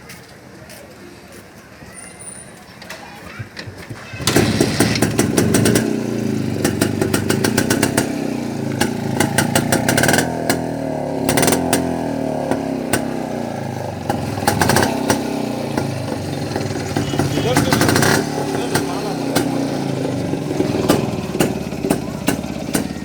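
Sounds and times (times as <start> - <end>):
two-stroke motorcycle engine running: 3.6 - 23.0.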